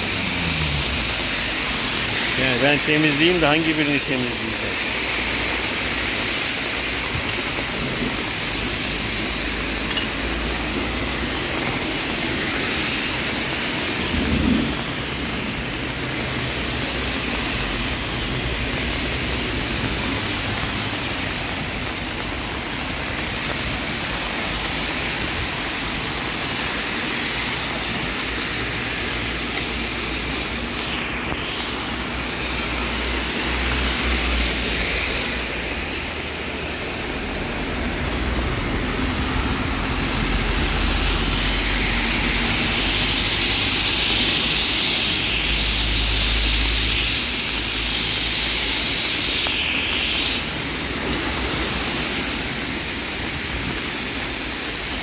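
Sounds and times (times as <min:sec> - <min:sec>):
car tyres swishing through water: 0:00.0 - 0:55.0
heavy rain: 0:00.0 - 0:55.0
rainwater running over drain grate: 0:00.0 - 0:55.0.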